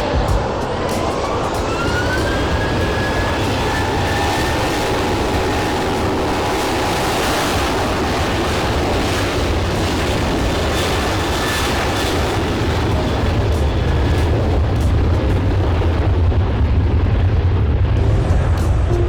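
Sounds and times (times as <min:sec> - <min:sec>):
loud jet engine noise: 0:00.0 - 0:19.0.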